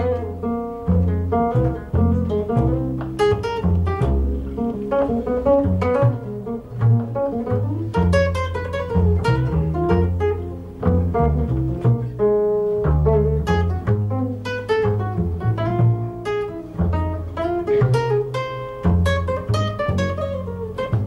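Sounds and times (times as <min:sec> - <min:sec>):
fingerpicked nylon-string guitar: 0:00.0 - 0:21.0
plucked double bass: 0:00.0 - 0:21.0.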